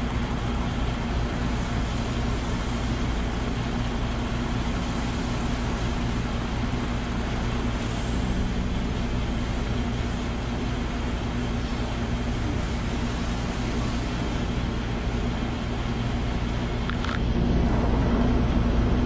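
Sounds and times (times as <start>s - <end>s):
low steady hum: 0.0s - 19.0s
fuel rushing into tank: 0.1s - 19.0s.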